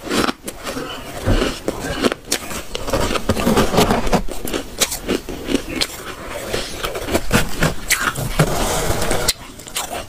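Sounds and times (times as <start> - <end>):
ice crunching and cracking: 0.0 - 10.0.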